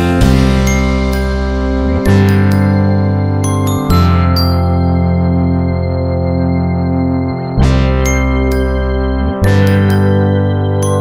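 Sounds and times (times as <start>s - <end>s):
sustained keyboard chords: 0.0s - 11.0s.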